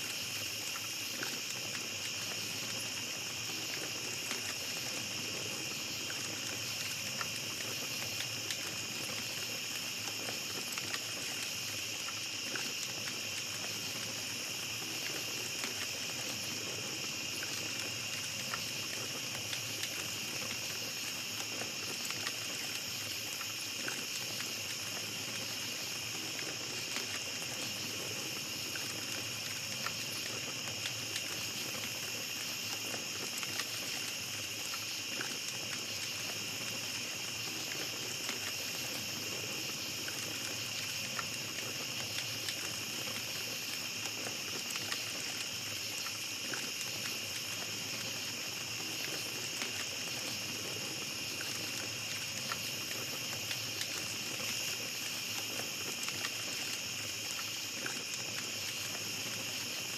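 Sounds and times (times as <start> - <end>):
campfire crackling and popping: 0.0 - 59.9
night insects chirping: 0.0 - 59.9.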